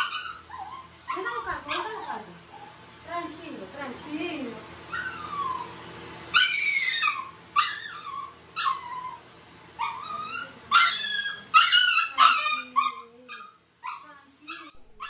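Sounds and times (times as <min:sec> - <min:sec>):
puppy crying: 0:00.0 - 0:02.8, 0:04.9 - 0:09.2, 0:09.8 - 0:15.0.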